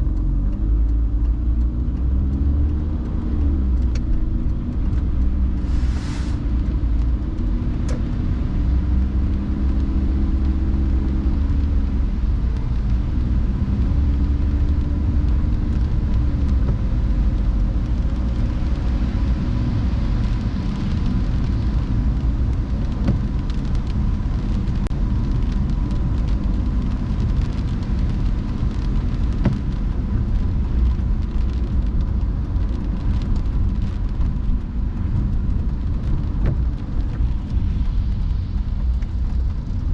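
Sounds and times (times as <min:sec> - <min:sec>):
car engine and tyre rumble: 0:00.0 - 0:39.9
rain ticks: 0:00.0 - 0:39.9.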